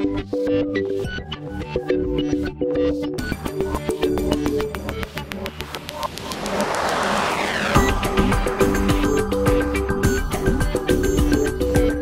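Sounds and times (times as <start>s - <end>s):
background music with held melody: 0.0s - 6.3s, 7.8s - 12.0s.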